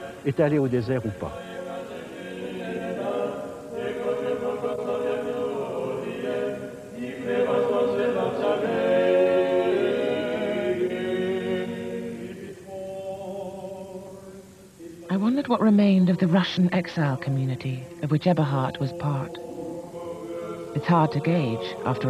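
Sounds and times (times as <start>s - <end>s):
unaccompanied choral chanting: 0.0s - 22.0s.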